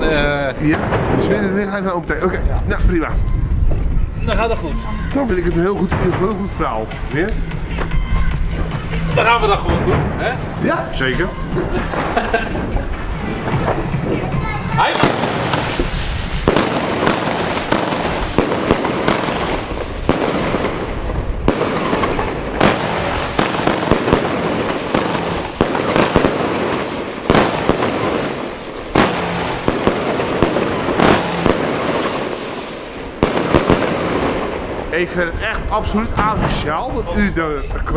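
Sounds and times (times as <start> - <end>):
fireworks bangs: 0.0 - 37.0
fireworks crackling: 0.0 - 37.9.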